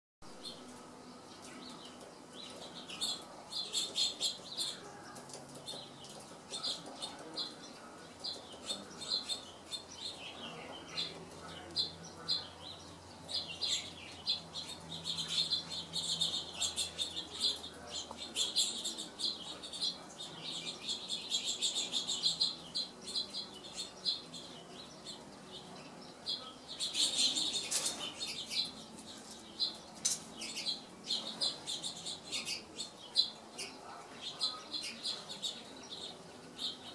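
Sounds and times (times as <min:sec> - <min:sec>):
birds chirping: 0:00.2 - 0:36.9.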